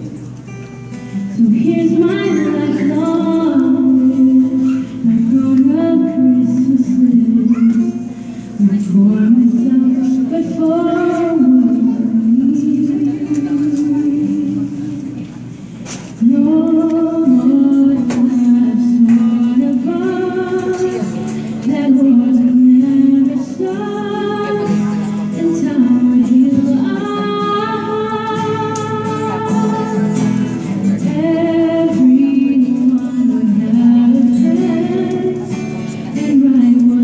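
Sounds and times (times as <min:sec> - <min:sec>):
acoustic guitar: 0:00.0 - 0:37.0
woman singing a slow ballad: 0:01.1 - 0:15.3, 0:16.1 - 0:37.0.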